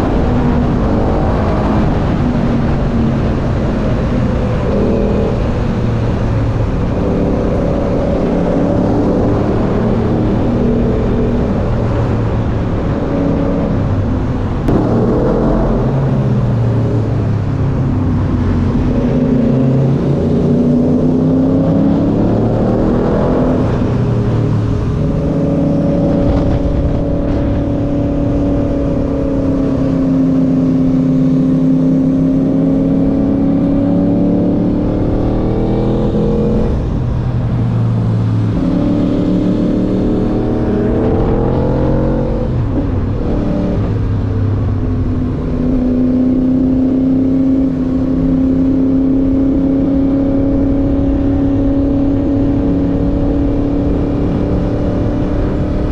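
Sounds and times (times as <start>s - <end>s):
motorcycle engine cruising: 0.0s - 55.9s
wind rushing over microphone: 0.0s - 55.9s.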